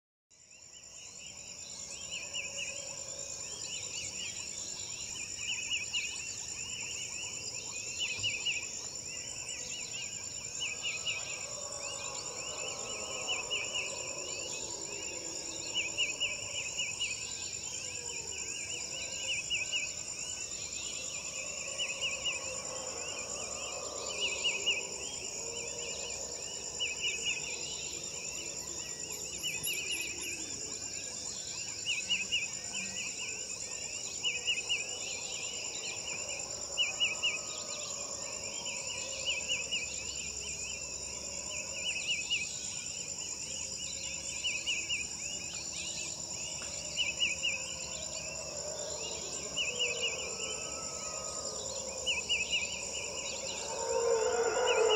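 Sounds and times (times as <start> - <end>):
high-pitched insect drone: 9.8 - 54.9.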